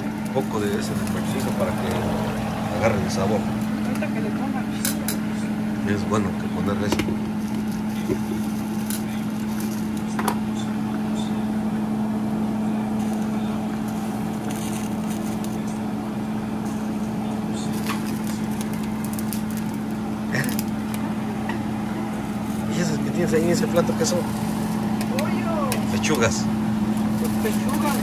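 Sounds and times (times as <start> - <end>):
mechanical motor hum: 0.0 - 28.0.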